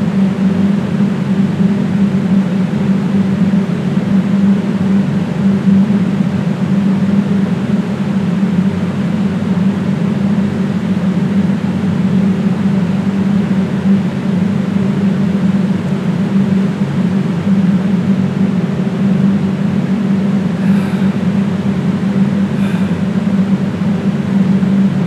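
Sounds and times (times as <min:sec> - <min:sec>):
low droning hum: 0:00.0 - 0:25.0.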